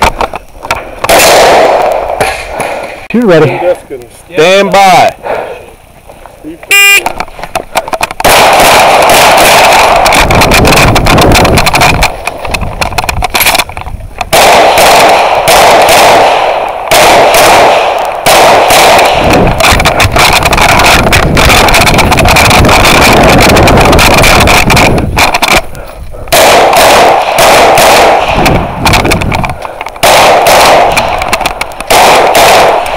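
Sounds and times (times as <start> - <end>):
pistol shots: 0.0 - 3.1, 7.5 - 13.7, 14.3 - 25.7, 26.3 - 32.9.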